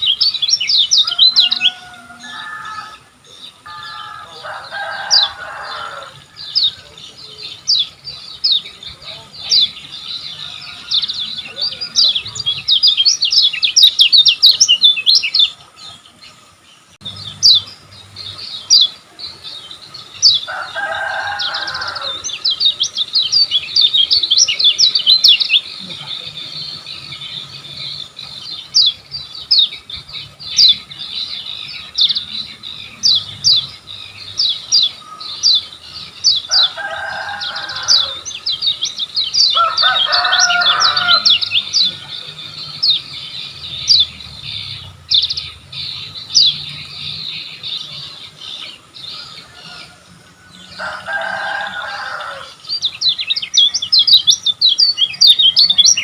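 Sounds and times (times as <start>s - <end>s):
bird chirping rapidly: 0.0s - 56.0s.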